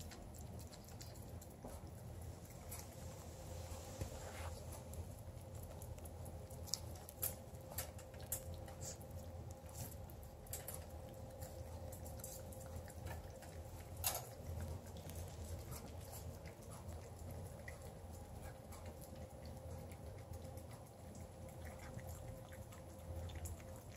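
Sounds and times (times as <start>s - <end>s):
faint steady hum: 0.0s - 23.9s
puppy gnawing chew stick: 0.0s - 23.9s.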